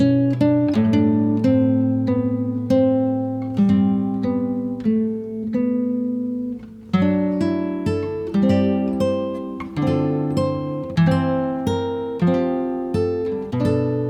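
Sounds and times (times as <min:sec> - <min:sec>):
plucked acoustic guitar chords: 0:00.0 - 0:14.0.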